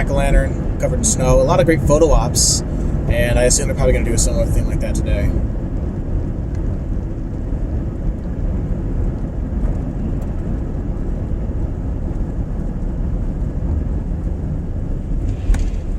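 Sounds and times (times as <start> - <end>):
car driving on road: 0.0 - 15.9.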